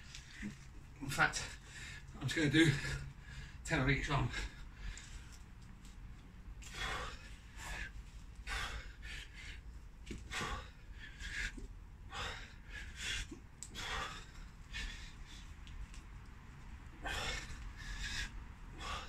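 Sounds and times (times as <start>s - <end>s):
man breathing forcefully: 1.4s - 3.6s, 4.2s - 5.5s, 6.5s - 19.0s.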